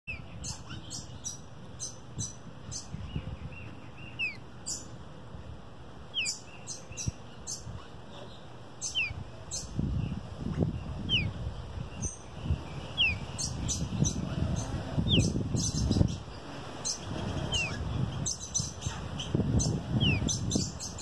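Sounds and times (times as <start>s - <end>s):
young songbird chirping: 0.1s - 5.0s, 6.1s - 21.0s.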